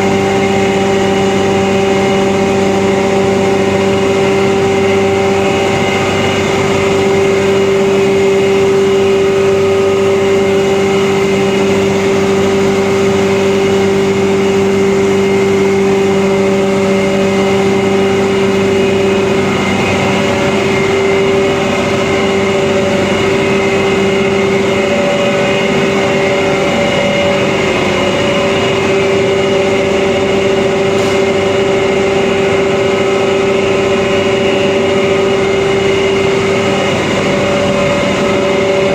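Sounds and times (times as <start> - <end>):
grinding machine droning: 0.0 - 38.9.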